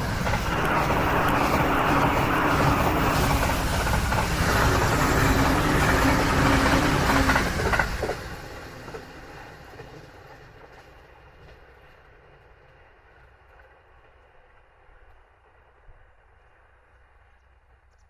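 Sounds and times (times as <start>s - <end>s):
electric train passing at speed: 0.0s - 17.9s.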